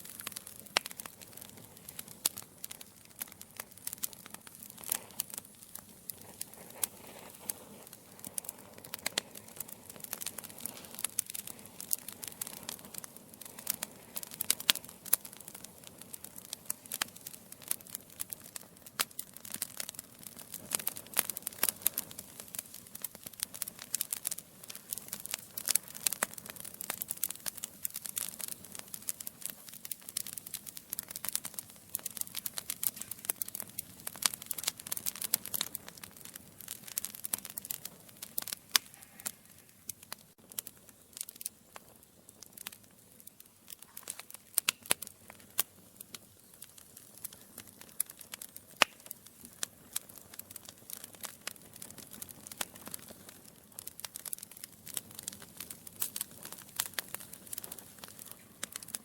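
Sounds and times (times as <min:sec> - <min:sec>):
fire hiss: 0:00.0 - 0:59.0
wood logs crackling in fireplace: 0:00.0 - 0:59.0.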